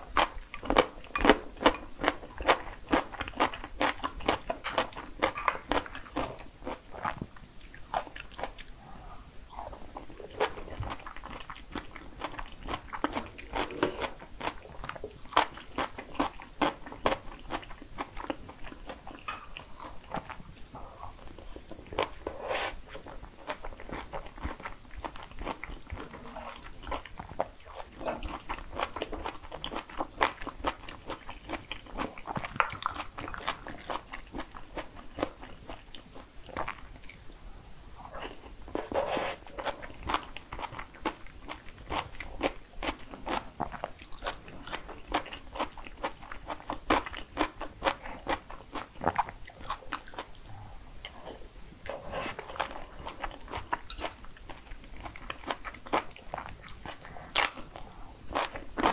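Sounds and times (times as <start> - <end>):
chewing noodles: 0.0 - 8.9, 9.5 - 37.2, 38.0 - 58.9.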